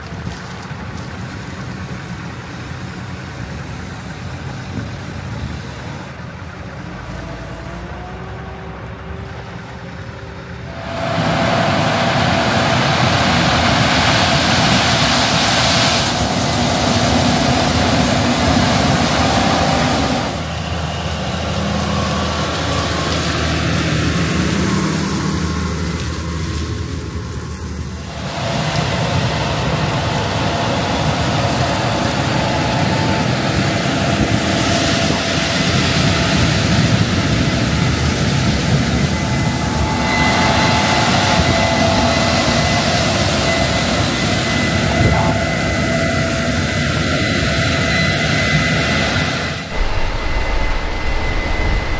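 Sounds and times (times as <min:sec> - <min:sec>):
diesel engine humming: 0:00.0 - 0:51.9
loud rushing combine harvester: 0:00.0 - 0:51.9.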